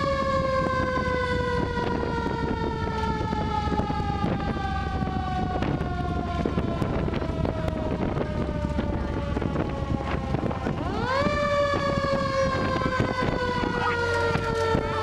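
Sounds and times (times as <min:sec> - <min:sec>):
fire truck siren wailing: 0:00.0 - 0:15.0
rumble of moving truck: 0:00.0 - 0:15.0
wind on microphone: 0:00.0 - 0:15.0.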